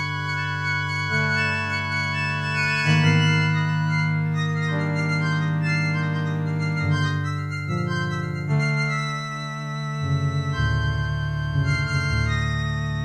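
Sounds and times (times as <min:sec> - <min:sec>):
low held bass: 0:00.0 - 0:13.0
organ-like keyboard chords: 0:00.0 - 0:13.0.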